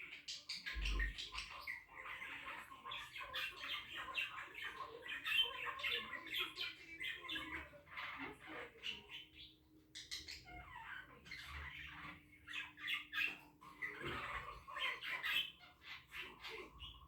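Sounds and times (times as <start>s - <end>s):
cockatiel chirping and squawking: 0.0s - 17.0s.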